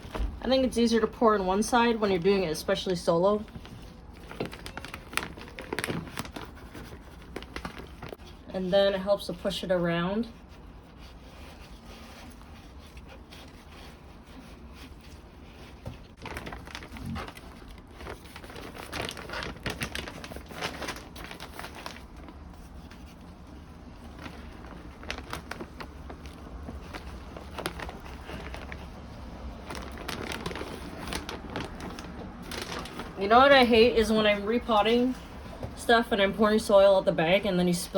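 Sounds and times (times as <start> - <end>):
plastic bag crinkling: 0.0 - 8.4, 11.0 - 37.9.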